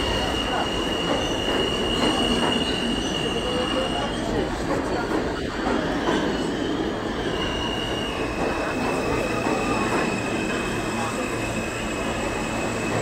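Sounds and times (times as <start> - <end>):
subway train rumbling over rails: 0.0 - 13.0.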